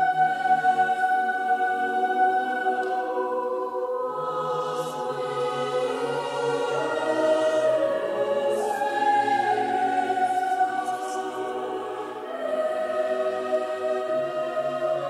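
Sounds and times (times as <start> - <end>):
mixed choir singing unaccompanied: 0.0 - 15.0.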